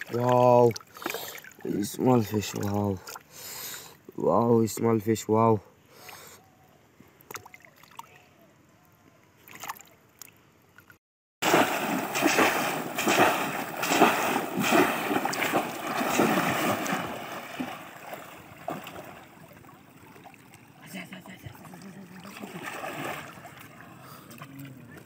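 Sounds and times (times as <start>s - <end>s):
water splashing and sloshing: 0.0s - 3.8s, 7.0s - 8.2s, 9.4s - 25.0s.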